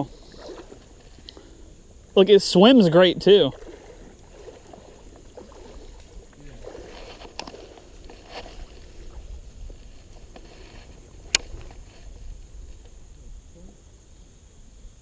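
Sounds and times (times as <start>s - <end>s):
river water sloshing: 0.0s - 14.2s.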